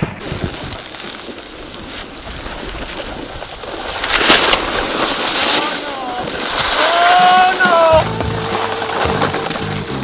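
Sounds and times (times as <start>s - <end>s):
snowboard sliding on snow: 0.0s - 10.0s.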